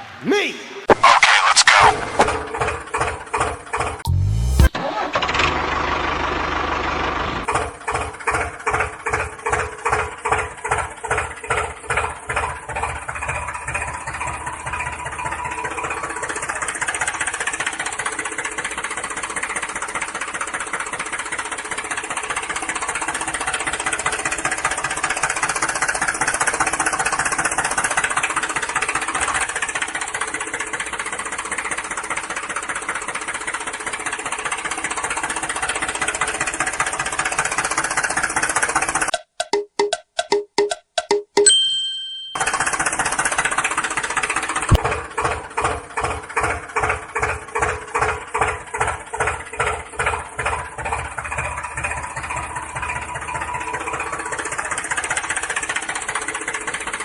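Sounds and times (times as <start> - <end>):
tractor engine chugging: 2.3 - 39.1, 42.4 - 57.0.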